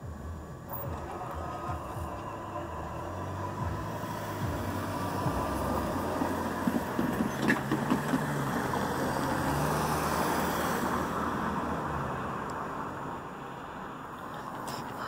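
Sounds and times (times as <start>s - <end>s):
cars driving: 0.0s - 15.0s.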